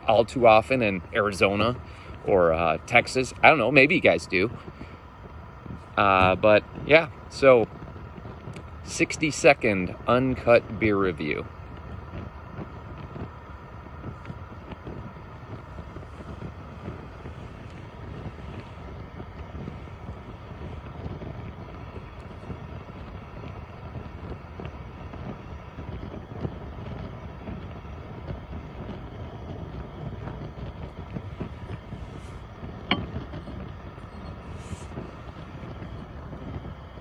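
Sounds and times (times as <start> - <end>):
fire popping: 0.0 - 37.0
wind noise on microphone: 0.0 - 37.0
wood fire crackling: 0.0 - 37.0.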